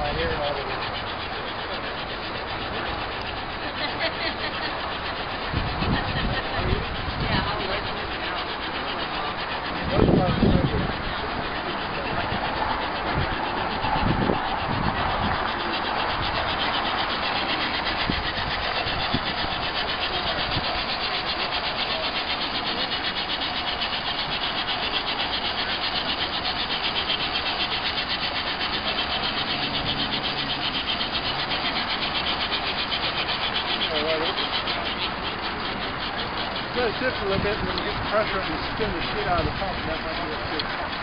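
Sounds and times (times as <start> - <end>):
pulsing steam hiss: 0.0 - 41.0.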